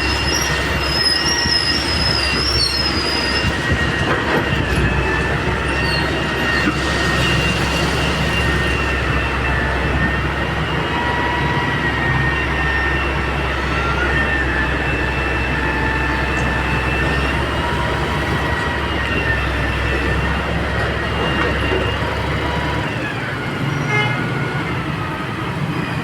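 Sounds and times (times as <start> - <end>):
high wavering squealing: 0.0 - 23.9
excavator engine hum: 0.0 - 26.0.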